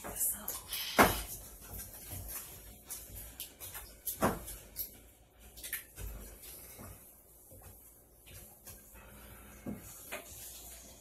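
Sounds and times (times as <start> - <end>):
wooden spoon stirring tomatoes: 0.0 - 11.0.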